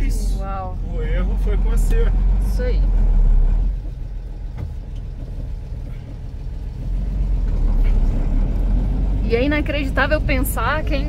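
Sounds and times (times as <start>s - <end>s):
truck diesel engine rumbling: 0.0s - 11.0s.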